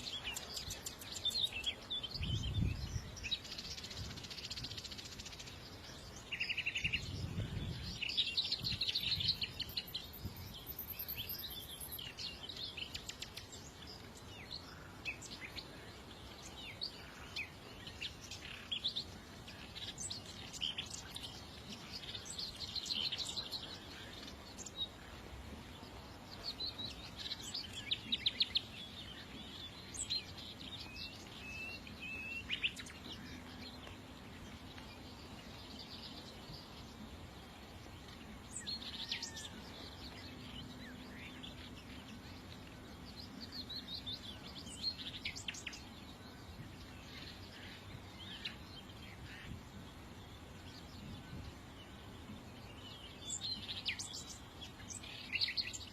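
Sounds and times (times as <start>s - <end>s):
faint steady background noise: 0.0s - 55.9s
small songbirds chirping: 0.0s - 55.9s.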